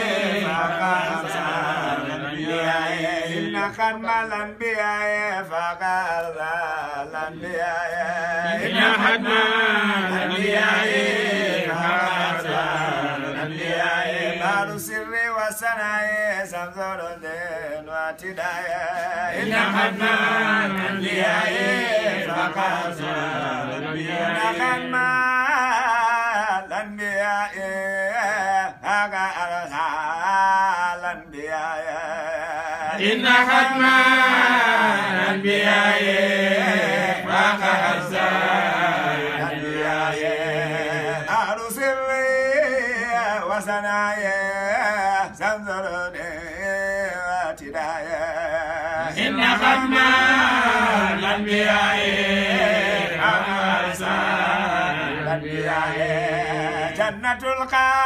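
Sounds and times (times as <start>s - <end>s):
men chanting devotional song: 0.0s - 58.0s.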